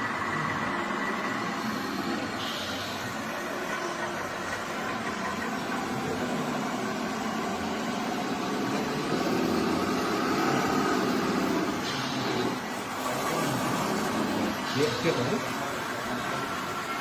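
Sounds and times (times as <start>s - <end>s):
remote-controlled machines droning: 0.0s - 17.0s.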